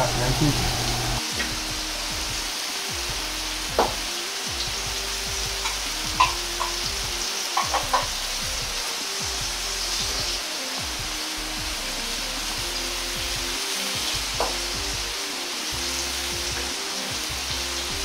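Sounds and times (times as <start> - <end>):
patties sizzling in oil: 0.0 - 18.0.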